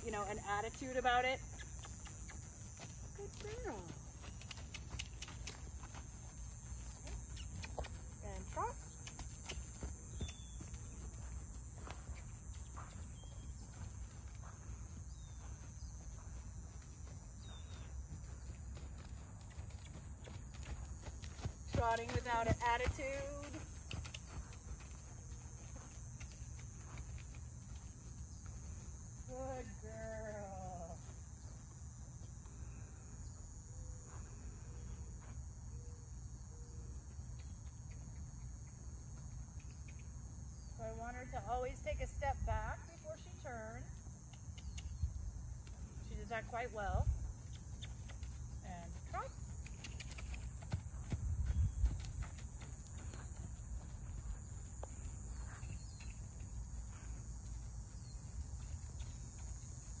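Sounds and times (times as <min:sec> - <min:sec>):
horse hooves on sand: 0:00.0 - 0:32.6, 0:36.9 - 1:00.0
cicadas droning: 0:00.0 - 1:00.0.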